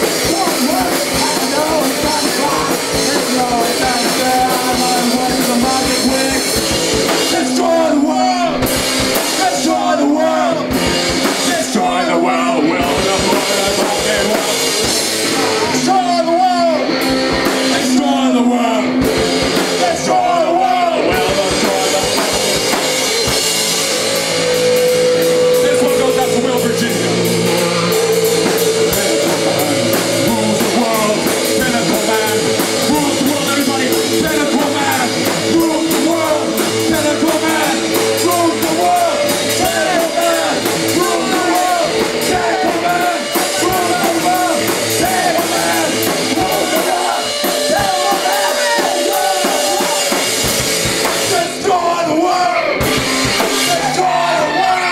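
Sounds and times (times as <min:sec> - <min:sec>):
person singing: 0:00.0 - 0:22.8, 0:24.6 - 0:50.5, 0:51.1 - 0:54.9
rock band playing live: 0:00.0 - 0:54.9.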